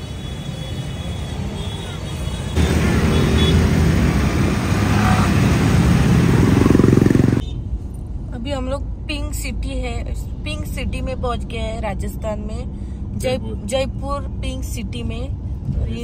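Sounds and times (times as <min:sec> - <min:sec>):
car engine and road rumble: 0:00.0 - 0:16.0
city traffic: 0:00.0 - 0:16.0.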